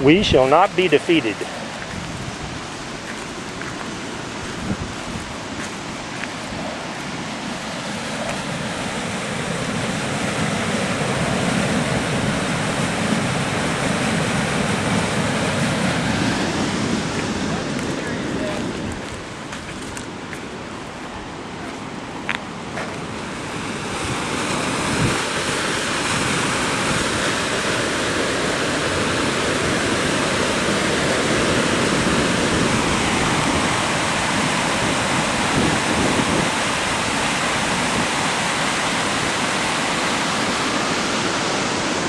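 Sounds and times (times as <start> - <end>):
river water rushing: 0.0 - 42.0.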